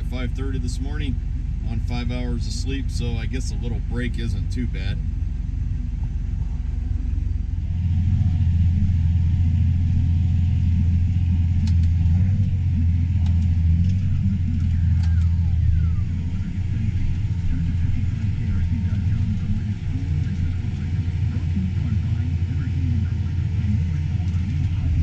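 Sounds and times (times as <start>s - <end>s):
combine engine droning: 0.0s - 25.0s.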